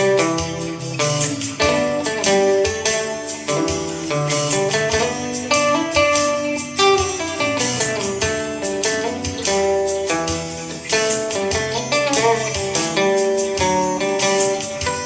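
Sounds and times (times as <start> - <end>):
acoustic guitar: 0.0 - 15.0.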